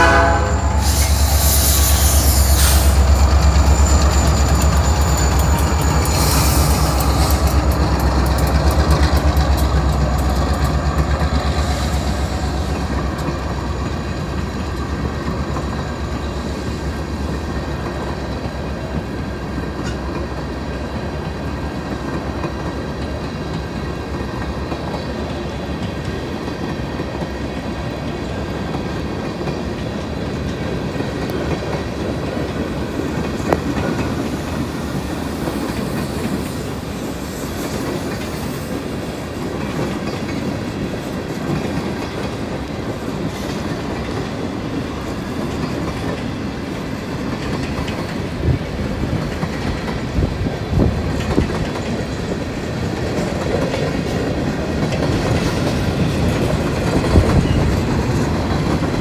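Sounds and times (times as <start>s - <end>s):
freight train cars rolling: 0.0s - 59.0s.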